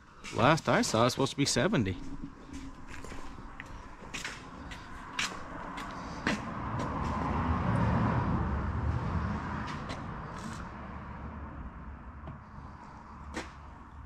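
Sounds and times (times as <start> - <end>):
motor vehicle passing by: 1.8 - 14.0.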